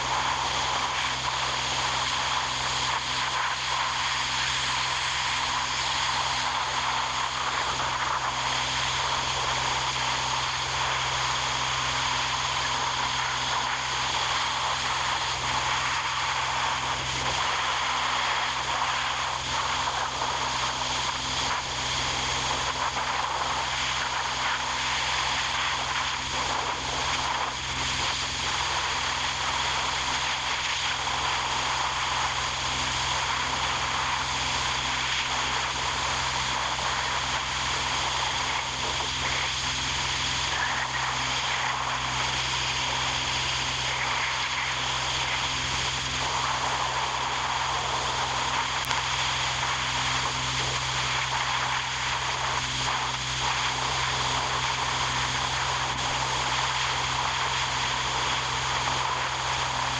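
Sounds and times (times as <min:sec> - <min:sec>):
constant low hum: 0:00.0 - 0:59.9.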